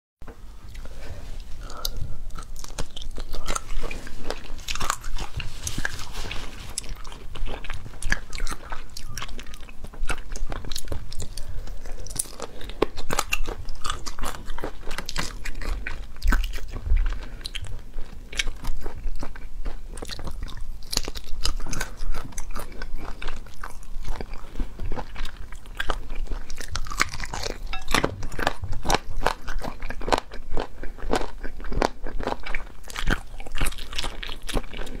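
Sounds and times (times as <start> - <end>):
close chewing and crunching: 0.5 - 35.0.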